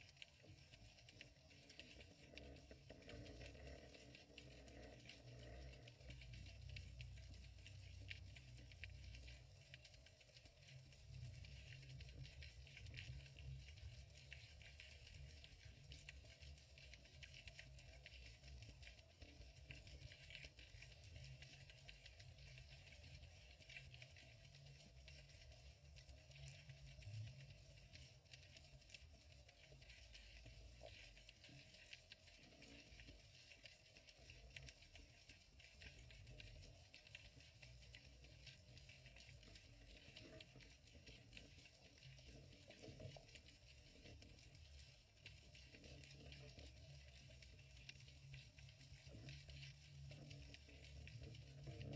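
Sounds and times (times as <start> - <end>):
fine crackling clicks: 0.0 - 51.9
muffled underwater rumble: 0.0 - 51.9.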